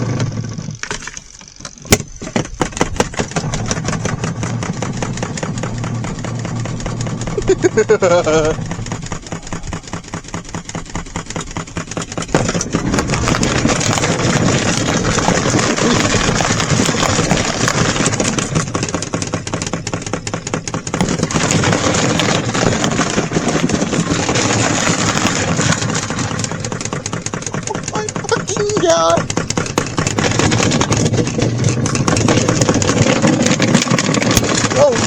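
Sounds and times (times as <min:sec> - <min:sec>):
washing machine churning and rattling: 0:01.8 - 0:35.0.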